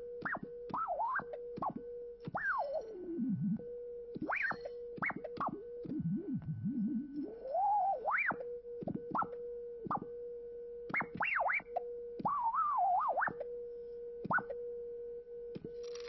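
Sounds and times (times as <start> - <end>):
electronic sine tones gliding: 0.0 - 16.0.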